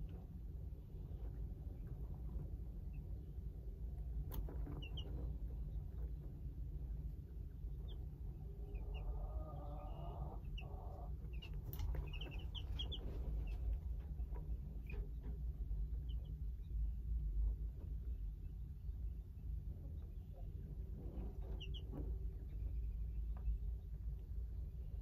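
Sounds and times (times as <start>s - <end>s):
baby chicks peeping: 0.0s - 25.0s
steady low rumble: 0.0s - 25.0s.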